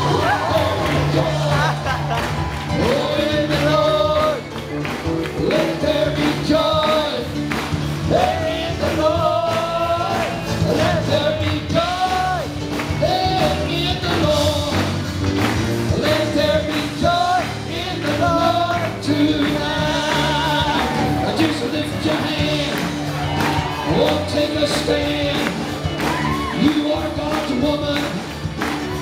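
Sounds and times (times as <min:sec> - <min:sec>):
band playing steady beat: 0:00.0 - 0:29.0
electric guitar: 0:00.0 - 0:29.0.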